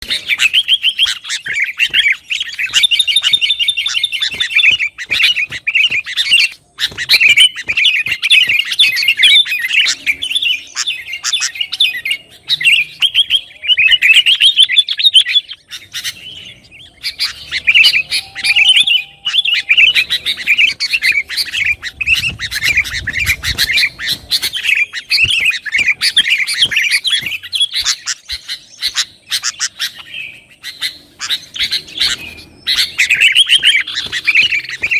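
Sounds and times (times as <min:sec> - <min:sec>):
bird chattering calls: 0:00.0 - 0:34.9.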